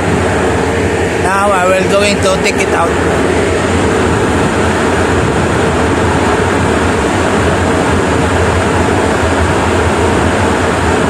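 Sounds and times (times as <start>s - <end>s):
air conditioner fan rushing: 0.0s - 11.0s
low hum: 0.0s - 11.0s.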